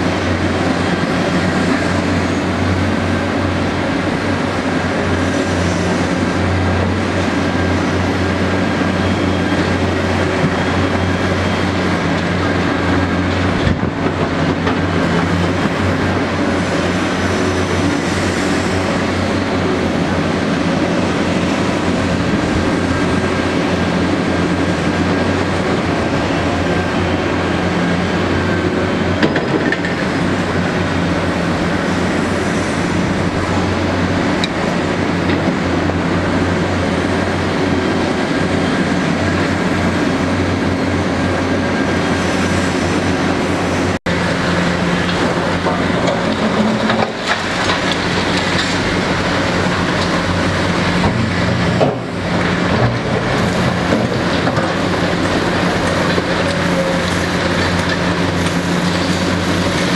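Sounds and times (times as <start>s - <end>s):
excavator diesel engines under load: 0.0s - 59.9s.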